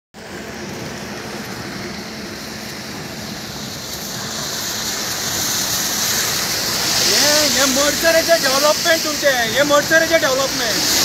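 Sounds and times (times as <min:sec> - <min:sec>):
tyres spraying floodwater: 0:00.2 - 0:11.0.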